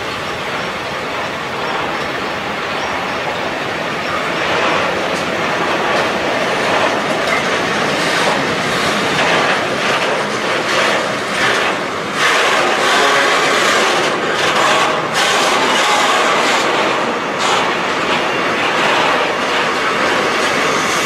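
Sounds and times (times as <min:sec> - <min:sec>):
freight train wheels on rails: 0:00.0 - 0:21.0.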